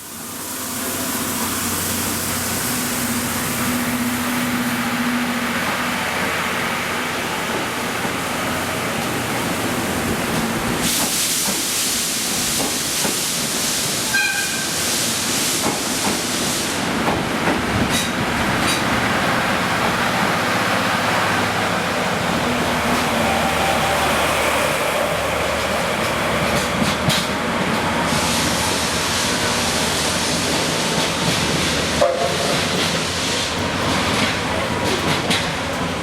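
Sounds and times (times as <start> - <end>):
loud hiss of steam: 0.0 - 36.0.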